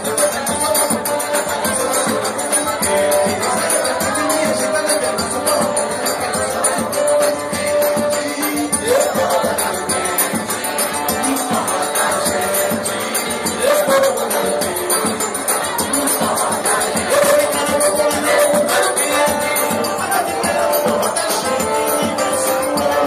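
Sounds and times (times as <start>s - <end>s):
accordion: 0.0s - 23.0s.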